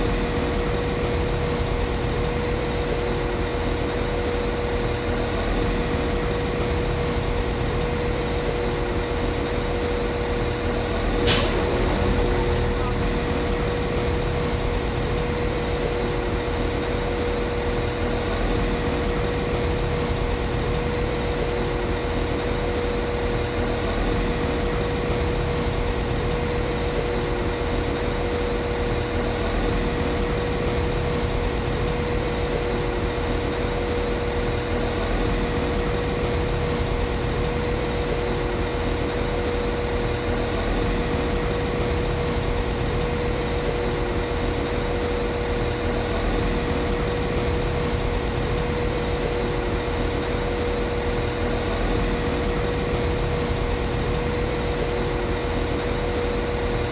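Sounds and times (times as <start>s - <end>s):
train diesel engine idling: 0.0s - 56.0s.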